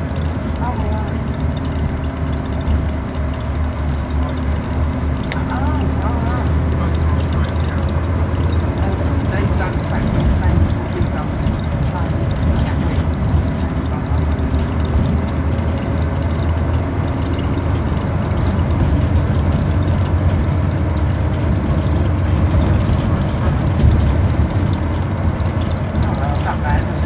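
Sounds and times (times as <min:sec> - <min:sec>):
bus diesel engine drone: 0:00.0 - 0:27.0
road noise: 0:00.0 - 0:27.0.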